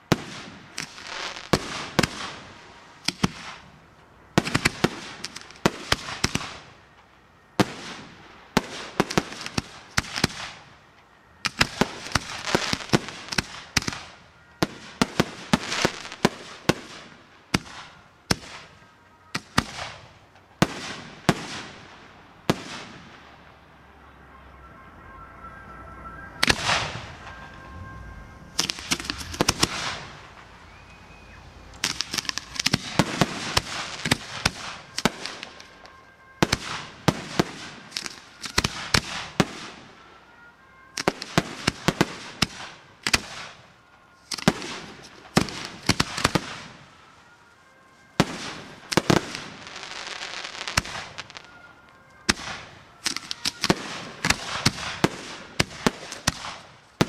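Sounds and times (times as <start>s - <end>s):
fireworks bangs and crackle: 0.0s - 23.7s, 25.8s - 57.0s.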